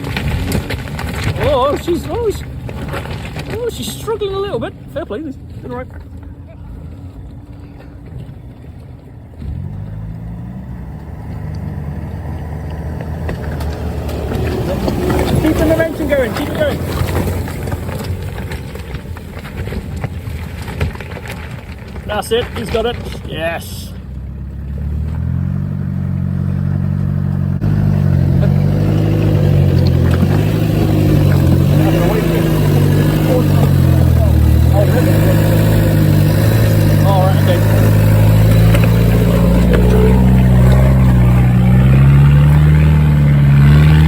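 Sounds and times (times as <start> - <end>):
off-road engine revving hard: 0.0 - 5.8, 9.3 - 19.0, 22.0 - 44.0.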